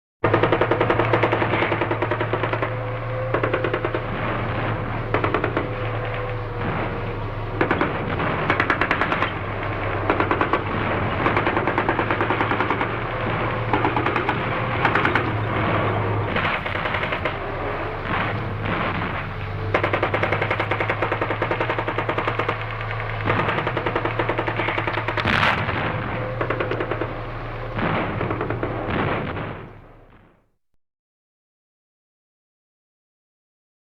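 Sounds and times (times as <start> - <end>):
machine-gun fire: 0.2 - 30.3
rifle shots: 0.2 - 30.3
steady low hum: 0.8 - 30.2.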